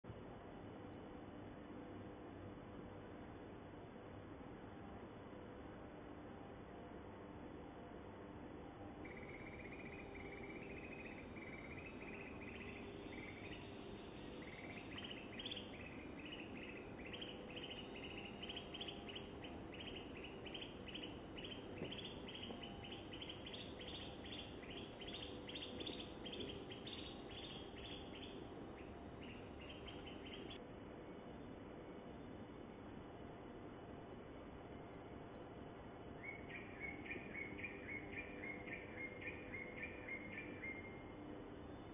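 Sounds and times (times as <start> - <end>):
insect chirping: 0.0 - 41.9.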